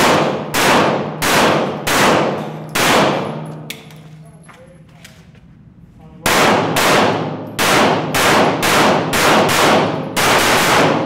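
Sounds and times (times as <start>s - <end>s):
pistol shots echoing indoors: 0.0s - 4.9s, 6.2s - 11.0s.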